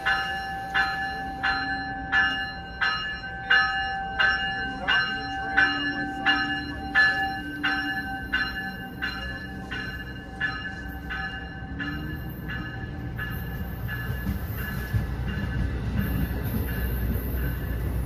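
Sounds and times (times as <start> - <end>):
low rumble of train: 0.0 - 18.0
railroad bell ringing: 0.0 - 18.0.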